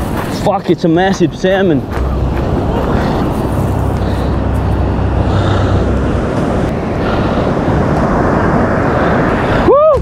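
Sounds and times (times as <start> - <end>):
heavy low rumble: 0.0 - 9.7
surf on a beach: 0.0 - 10.0
wind: 0.0 - 10.0.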